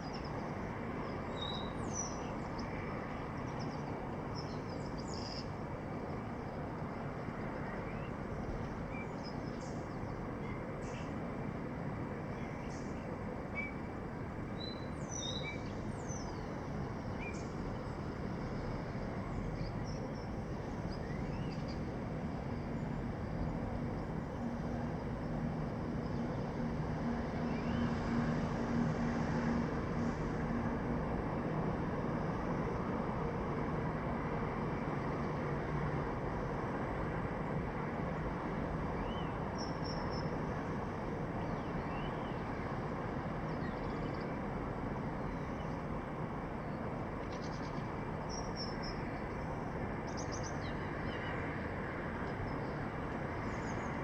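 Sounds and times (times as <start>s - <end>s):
city background hiss and rumble: 0.0s - 54.0s.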